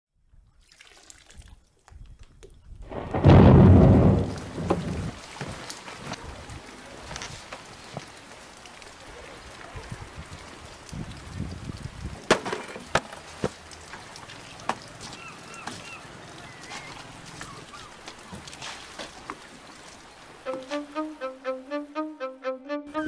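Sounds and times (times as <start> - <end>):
wind and water wash: 1.0 - 22.1.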